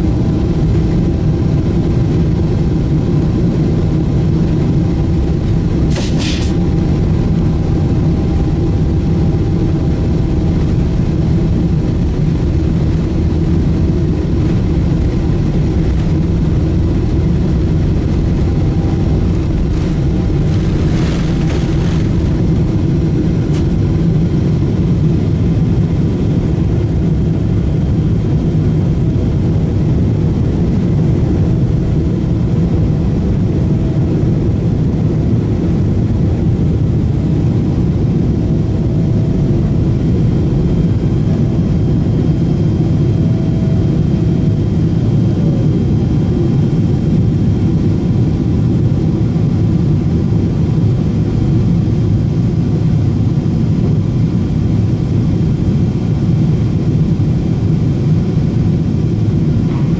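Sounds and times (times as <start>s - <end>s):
faint engine whine: 0.0s - 59.9s
jet engines roaring: 0.0s - 59.9s.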